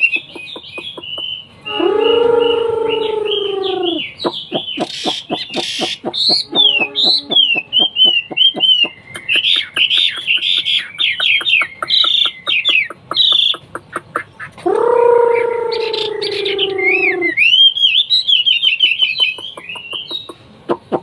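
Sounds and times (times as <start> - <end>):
bird singing whistled notes: 0.0 - 13.6, 15.8 - 20.4.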